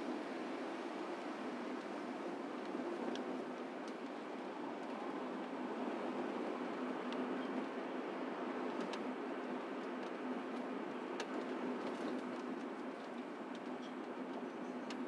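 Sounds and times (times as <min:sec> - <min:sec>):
car road and tyre noise: 0:00.0 - 0:15.0.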